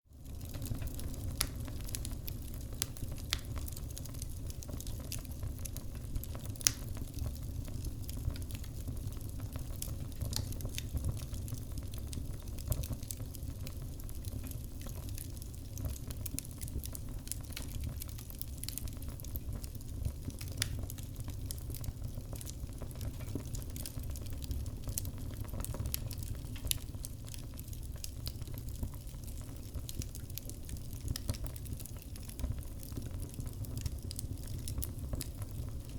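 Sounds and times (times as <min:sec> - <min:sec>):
low rumble of flames: 0:00.1 - 0:35.9
wood fire crackling and popping: 0:00.1 - 0:35.9.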